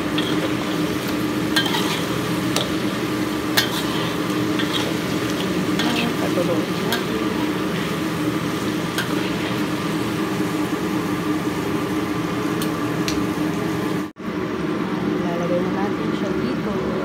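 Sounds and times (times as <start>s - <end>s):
food sizzling in oil: 0.0s - 14.1s.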